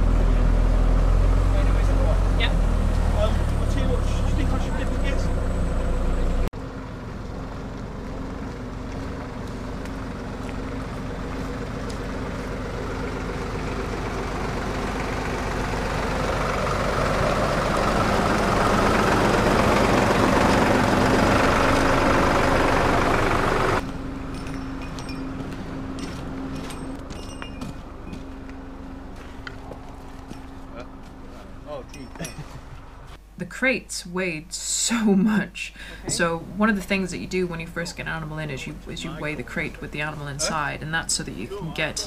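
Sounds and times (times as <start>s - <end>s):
quieter engine running steadily: 0.0s - 33.3s, 35.7s - 42.0s
diesel tractor engine running: 0.0s - 33.8s, 35.7s - 42.0s.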